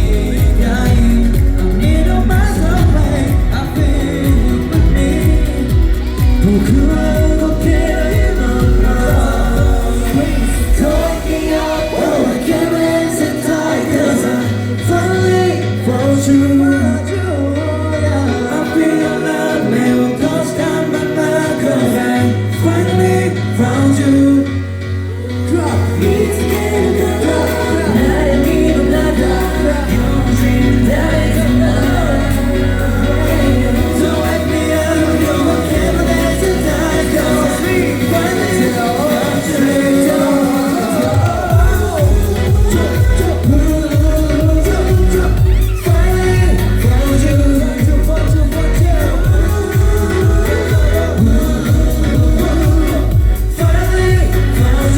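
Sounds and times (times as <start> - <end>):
deep bass line: 0.0 - 54.9
male vocal group singing: 0.0 - 54.9.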